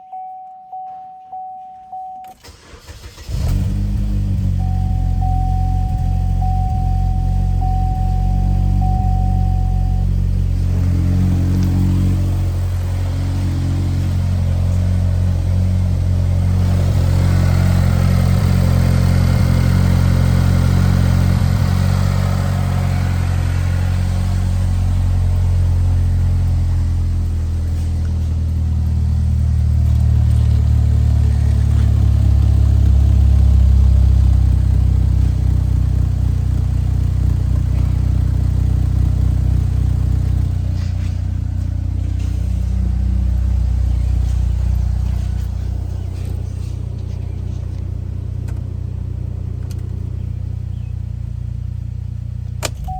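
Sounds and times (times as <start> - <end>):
car engine running: 2.4 - 52.9.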